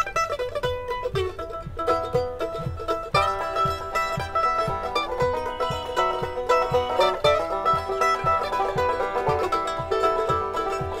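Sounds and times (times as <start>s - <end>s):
mandolin and banjo bluegrass tune: 0.0s - 11.0s.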